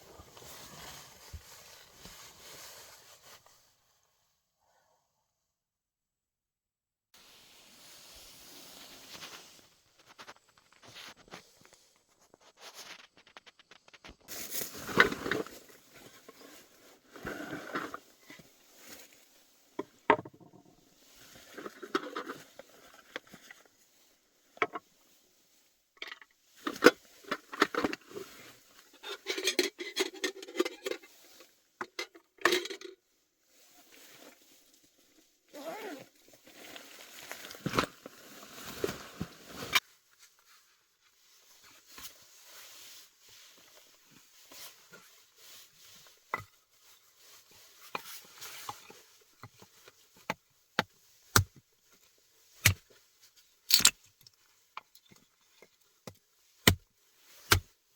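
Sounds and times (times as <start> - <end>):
rustling of handled things: 0.0 - 4.1, 7.2 - 57.9.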